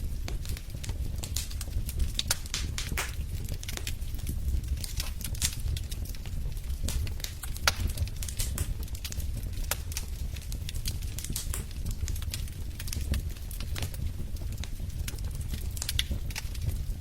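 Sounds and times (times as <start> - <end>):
low steady fire rumble: 0.0 - 17.0
wood fire crackling and popping: 0.0 - 17.0.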